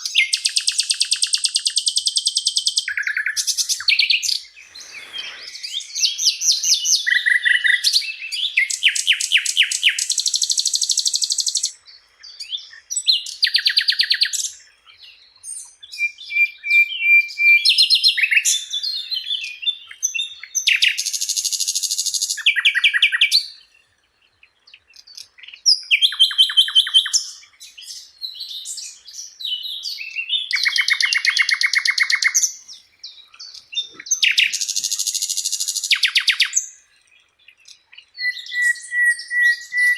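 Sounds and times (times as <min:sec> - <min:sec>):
flycatcher singing trills: 0:00.0 - 0:39.9.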